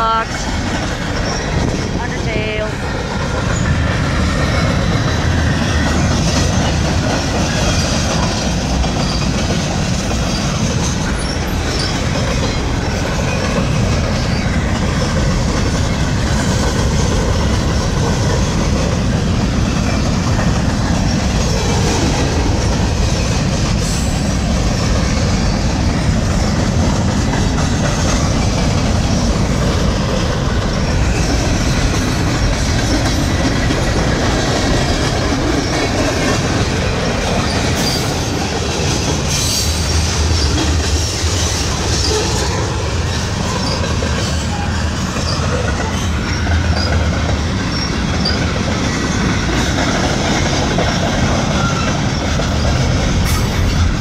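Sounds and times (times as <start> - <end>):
steel wheels clattering on rails: 0.0 - 54.0.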